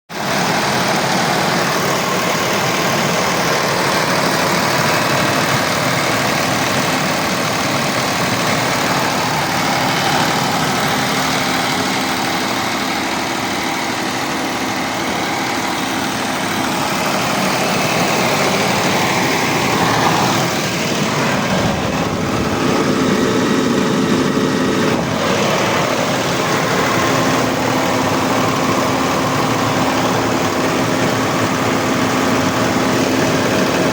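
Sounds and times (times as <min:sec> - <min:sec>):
diesel generator running: 0:00.1 - 0:33.9.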